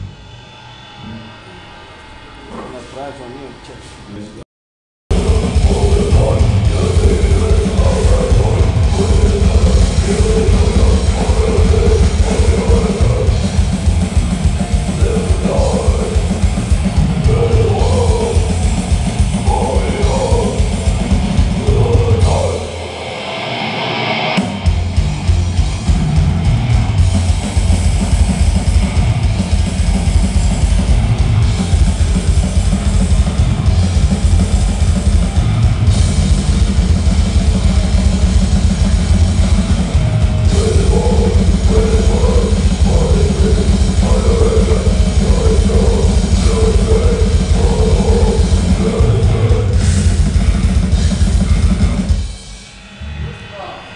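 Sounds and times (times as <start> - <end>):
distorted guitar: 0.0 - 4.0, 5.1 - 53.9
pounding drums: 5.1 - 23.0, 24.4 - 52.6
grindcore band playing: 5.1 - 53.9.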